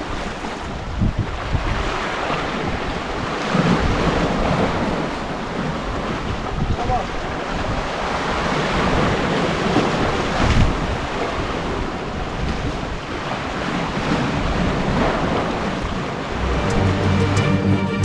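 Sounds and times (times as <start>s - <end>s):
wind buffeting microphone: 0.0s - 16.4s
waves washing against rocks: 1.2s - 16.4s.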